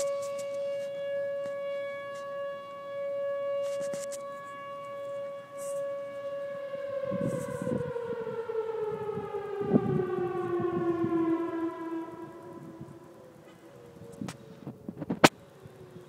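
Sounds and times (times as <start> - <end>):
siren-like horn tone: 0.0 - 15.3.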